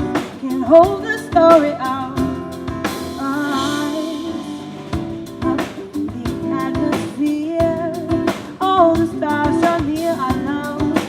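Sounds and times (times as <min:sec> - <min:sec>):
band playing live: 0:00.0 - 0:11.0.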